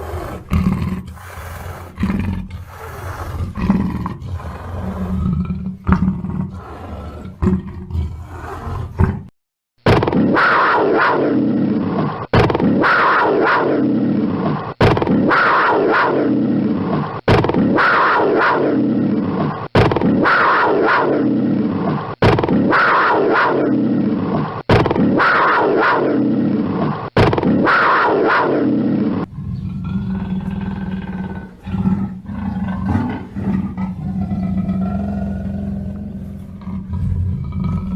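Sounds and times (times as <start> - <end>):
panther roaring growl: 0.0 - 9.3, 10.1 - 37.9.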